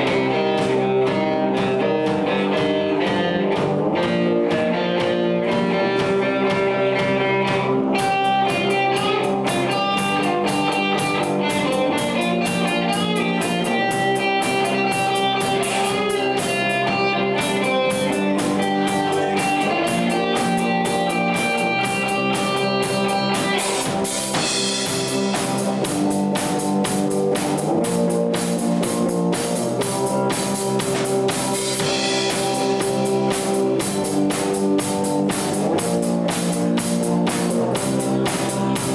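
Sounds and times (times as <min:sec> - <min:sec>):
drum kit: 0:00.0 - 0:38.9
electric guitars: 0:00.0 - 0:38.9
live rock band playing: 0:00.0 - 0:38.9
cymbals: 0:05.0 - 0:38.9.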